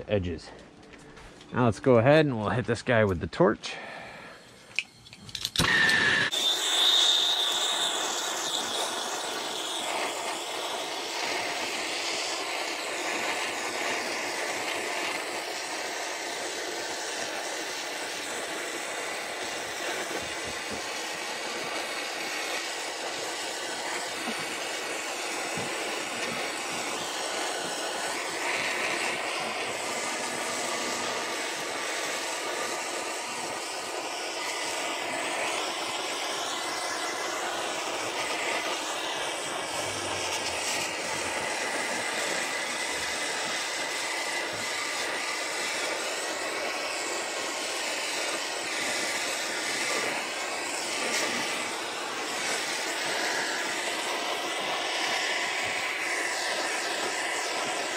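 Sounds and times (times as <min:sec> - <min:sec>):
gas torch flame roaring: 0:03.7 - 0:57.9.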